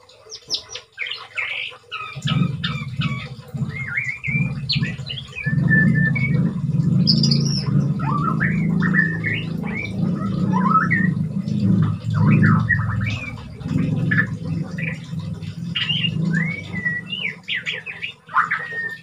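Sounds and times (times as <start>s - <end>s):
bird singing whistled phrases: 0.3s - 19.0s
low rumble: 2.2s - 17.7s.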